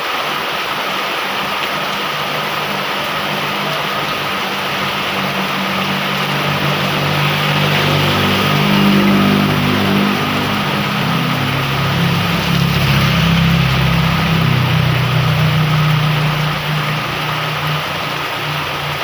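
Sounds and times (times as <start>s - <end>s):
heavy rain: 0.0s - 19.0s
vehicle engine running: 0.7s - 19.0s.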